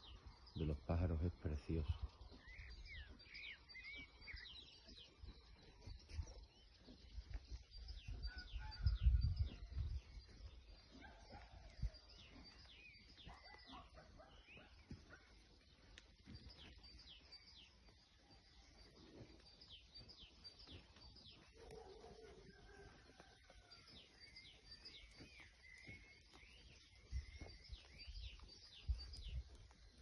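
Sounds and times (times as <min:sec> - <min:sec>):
small birds chirping and singing: 0:00.0 - 0:30.0.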